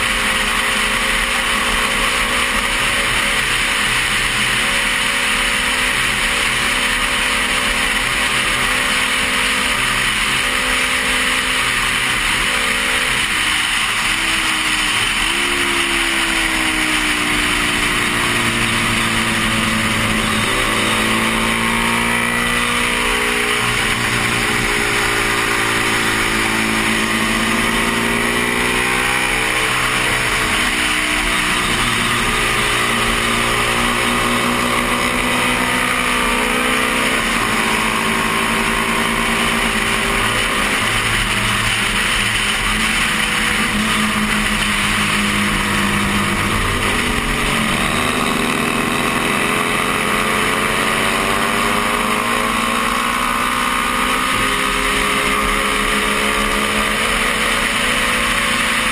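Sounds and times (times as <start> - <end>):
motorcycle engine at racing speed: 0.0 - 58.9.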